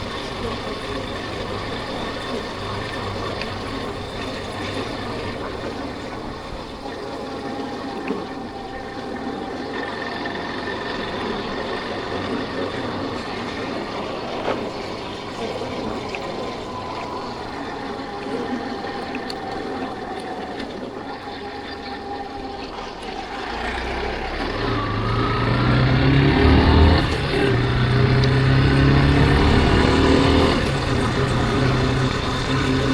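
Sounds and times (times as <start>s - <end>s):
motorcycle engine running: 0.0s - 17.6s, 21.3s - 32.9s
faint clicks: 0.0s - 25.7s, 27.0s - 32.9s
wind and road noise: 0.0s - 32.9s.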